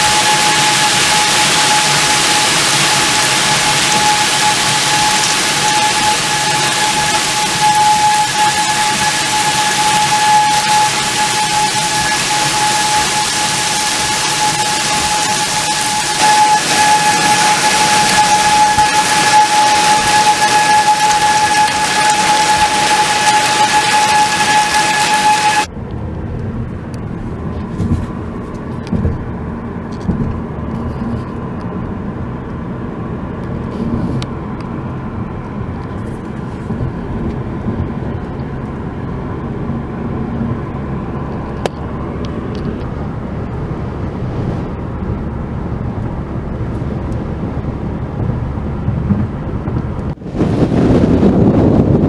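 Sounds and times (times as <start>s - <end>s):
car road and engine noise: 0.0s - 52.0s
wind noise on microphone: 0.0s - 52.0s.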